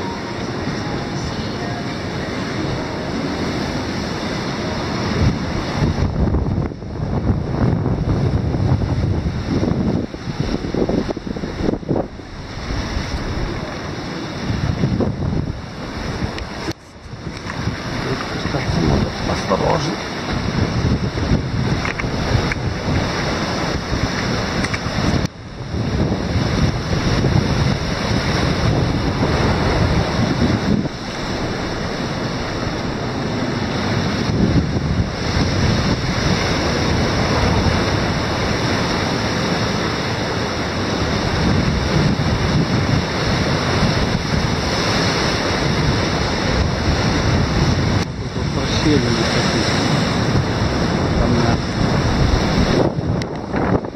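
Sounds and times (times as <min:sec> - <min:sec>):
waves breaking on boulders: 0:00.0 - 0:53.9
wind buffeting microphone: 0:00.0 - 0:53.9.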